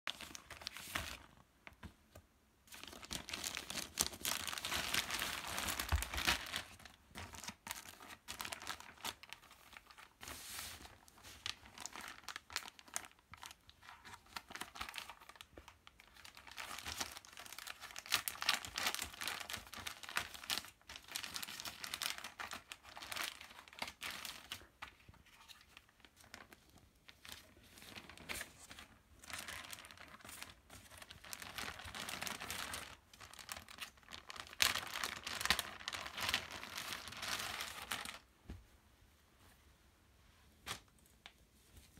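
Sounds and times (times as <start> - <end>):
plastic packaging crinkling: 0.1 - 1.8, 2.7 - 38.3.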